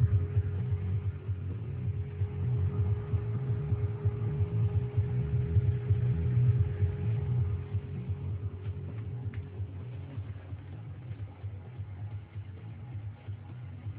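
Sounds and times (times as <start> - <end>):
computer fans humming: 0.0 - 13.9
steady mid-pitched tone: 0.0 - 13.9.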